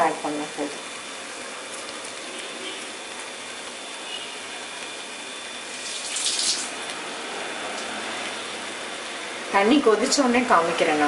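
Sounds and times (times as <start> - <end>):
rice frying sizzle: 0.0 - 9.4.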